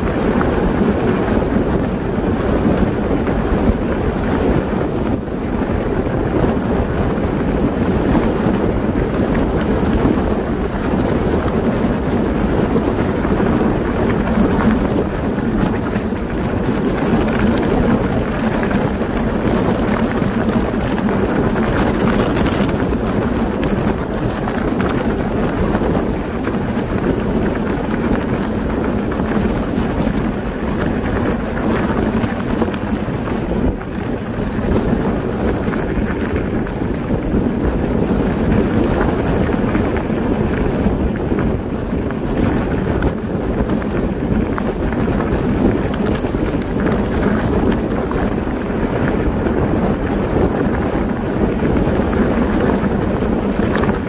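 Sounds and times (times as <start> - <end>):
gravel and bike rattles: 0.0 - 54.0
tyres rumbling on gravel: 0.0 - 54.0
wind buffeting microphone: 0.0 - 54.0.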